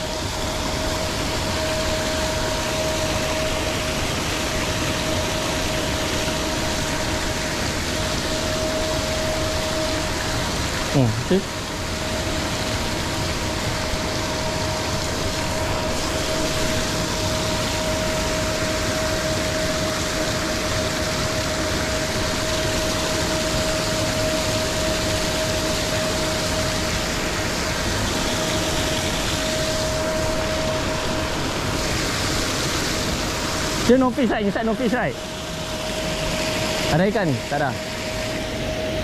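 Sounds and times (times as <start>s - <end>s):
aerator motor drone with whine: 0.0s - 39.0s.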